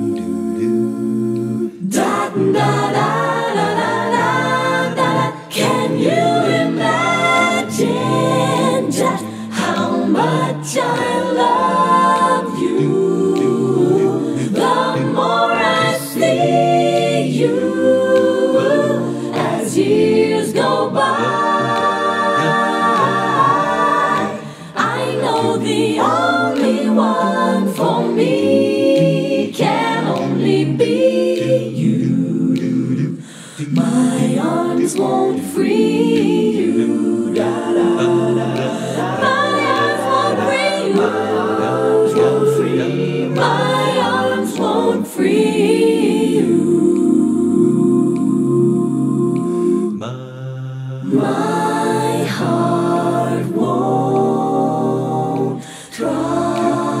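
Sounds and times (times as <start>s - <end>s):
a cappella vocal jazz harmony: 0.0s - 57.0s.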